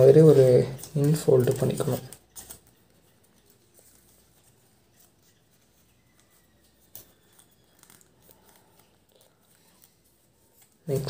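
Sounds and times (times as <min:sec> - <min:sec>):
paper rustling and crinkling: 0:00.0 - 0:11.0
paper clicks and ticks: 0:00.8 - 0:11.0.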